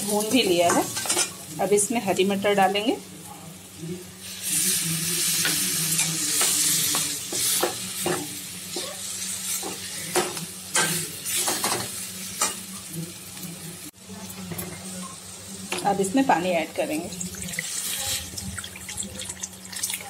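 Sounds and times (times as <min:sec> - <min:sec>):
food sizzling in pan: 0:00.0 - 0:20.0.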